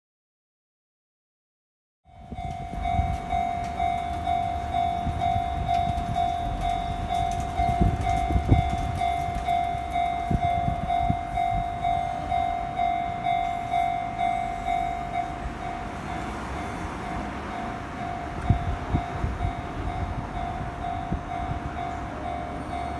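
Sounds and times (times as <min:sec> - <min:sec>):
level crossing warning bell: 0:02.1 - 0:22.9.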